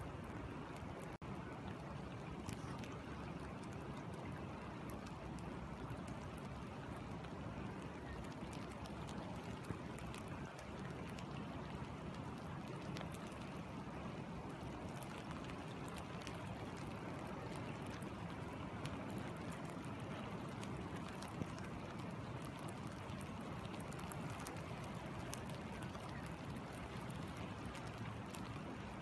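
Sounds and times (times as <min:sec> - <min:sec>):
raindrops ticking on water and sand: 0:00.0 - 0:29.0
river flowing: 0:00.0 - 0:29.0.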